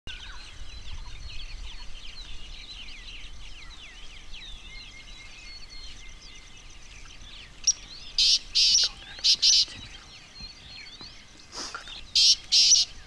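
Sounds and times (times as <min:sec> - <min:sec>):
birds chirping and whistling: 0:00.1 - 0:13.0.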